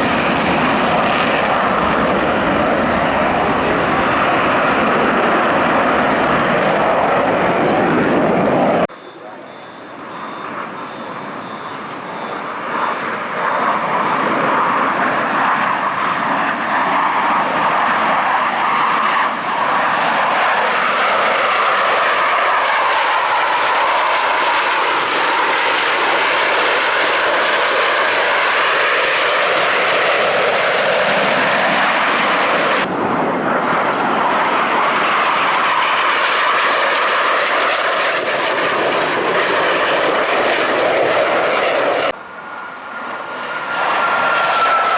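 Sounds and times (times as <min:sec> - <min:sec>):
jets roaring past: 0:00.0 - 0:44.9.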